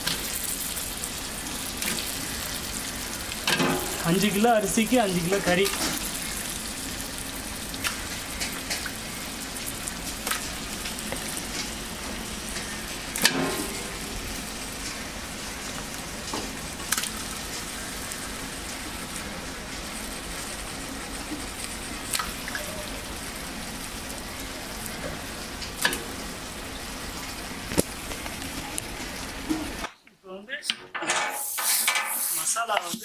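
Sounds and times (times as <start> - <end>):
food sizzling in oil: 0.0 - 29.9, 31.3 - 33.0.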